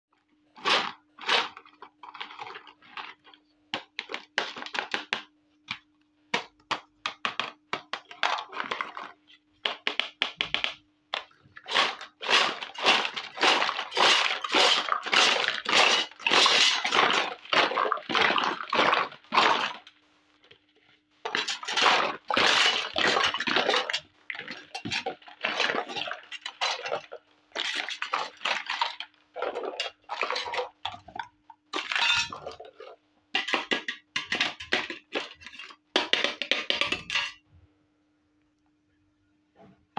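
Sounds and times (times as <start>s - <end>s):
plastic toys clattering: 0.6s - 5.2s, 7.1s - 19.9s, 21.2s - 37.4s.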